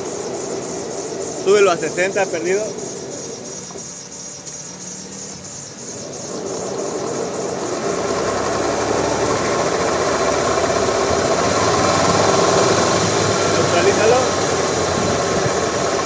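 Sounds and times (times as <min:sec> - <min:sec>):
car engine and wheel drone: 0:00.0 - 0:16.0.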